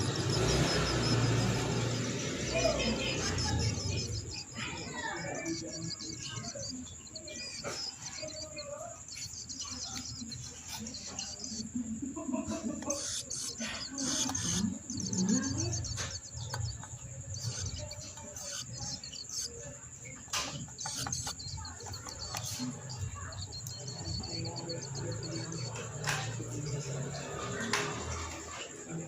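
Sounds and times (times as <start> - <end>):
young bird chirping: 0.0 - 29.0.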